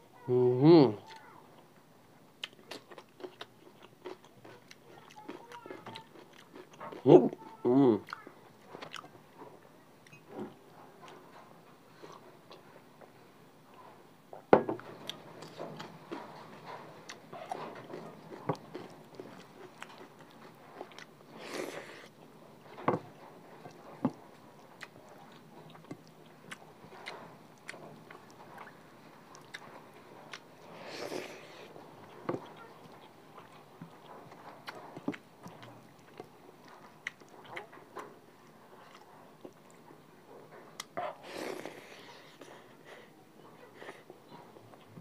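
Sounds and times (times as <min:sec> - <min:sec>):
person chewing food: 0:02.4 - 0:11.3, 0:14.8 - 0:45.0.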